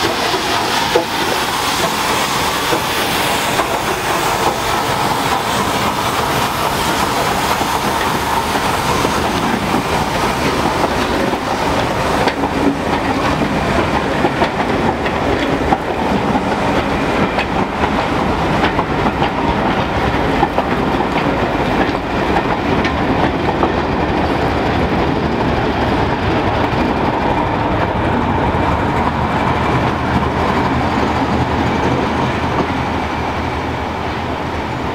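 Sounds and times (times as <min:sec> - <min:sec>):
diesel locomotive engine: 0:00.0 - 0:34.9.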